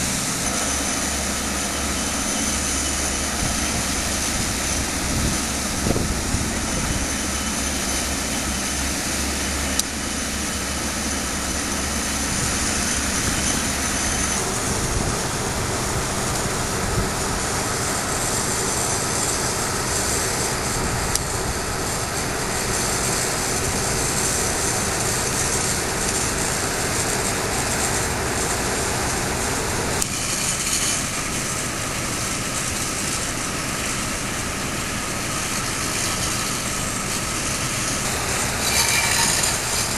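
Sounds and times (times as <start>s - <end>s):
dredger engines droning: 0.0s - 39.9s
rushing spray: 0.0s - 39.9s.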